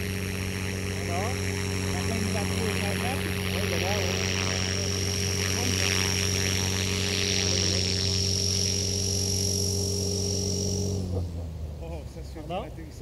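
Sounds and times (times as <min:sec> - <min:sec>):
electric motor whine: 0:00.0 - 0:12.0
helicopter rotor hum: 0:00.0 - 0:13.0.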